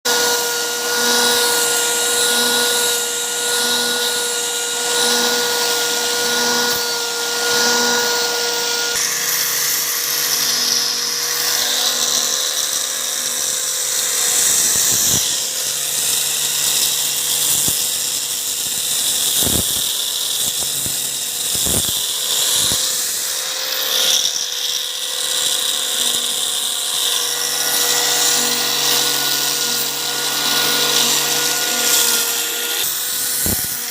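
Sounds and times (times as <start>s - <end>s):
power tool whining on wood: 0.0s - 33.9s.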